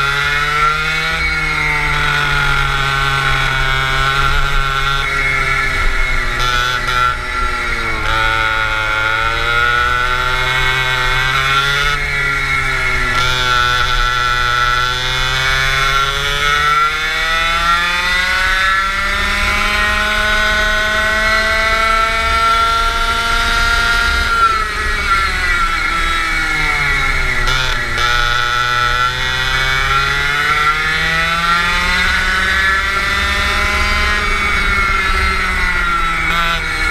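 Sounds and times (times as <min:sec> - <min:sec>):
go-kart engine revving: 0:00.0 - 0:36.9.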